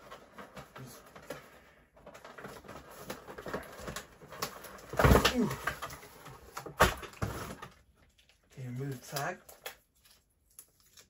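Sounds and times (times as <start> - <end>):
packaging clicks taps and rustles: 0.0 - 11.0.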